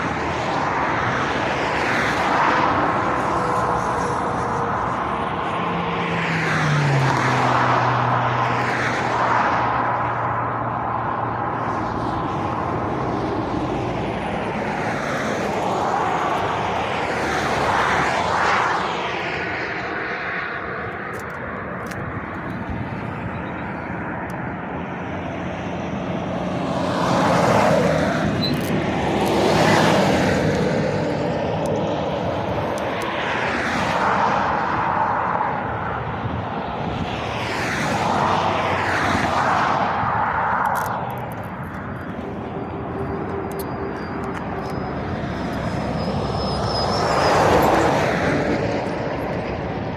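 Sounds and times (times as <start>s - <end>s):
road traffic passing: 0.0s - 49.9s.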